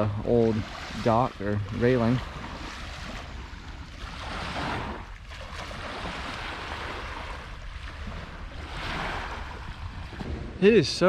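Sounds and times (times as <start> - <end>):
water washing at shore: 0.0 - 11.0
wind on microphone: 0.0 - 11.0.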